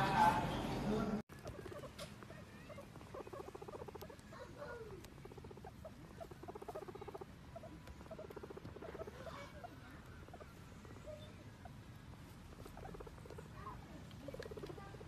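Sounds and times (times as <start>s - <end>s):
guinea pig squeaks: 1.3s - 15.0s
guinea pigs purring calls: 1.3s - 15.0s.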